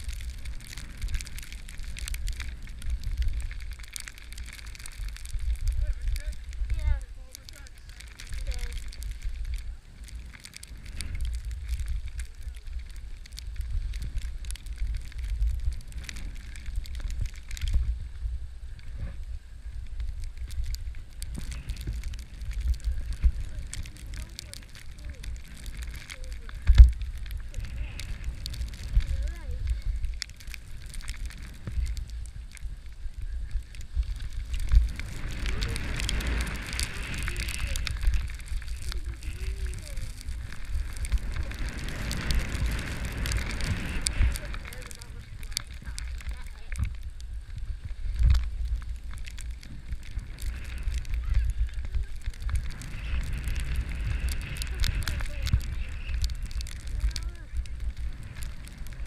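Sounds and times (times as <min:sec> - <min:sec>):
crackling clicks: 0:00.0 - 0:59.0
skis scraping over packed snow: 0:00.0 - 0:59.0
wind rumble on microphone: 0:00.0 - 0:59.0.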